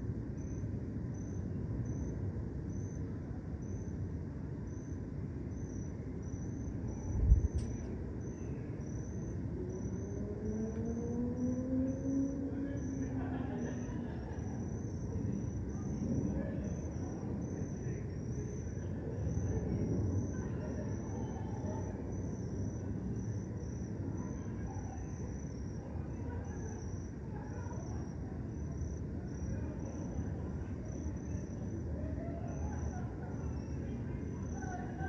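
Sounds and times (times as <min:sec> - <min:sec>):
crickets chirping: 0:00.0 - 0:35.0
low city rumble: 0:00.0 - 0:35.0.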